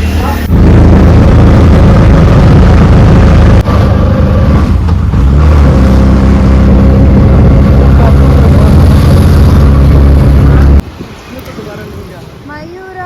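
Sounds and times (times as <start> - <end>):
auto-rickshaw engine running: 0.0 - 10.8.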